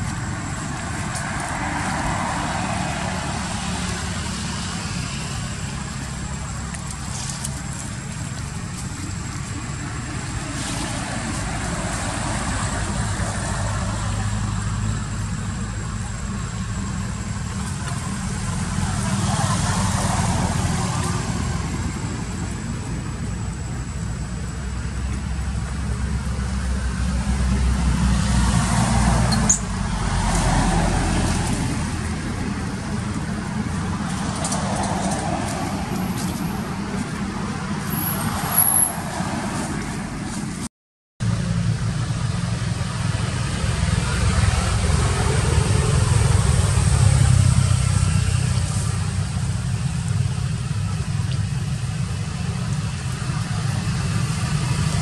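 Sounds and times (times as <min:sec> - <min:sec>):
vehicle engines humming: 0:00.0 - 0:55.0.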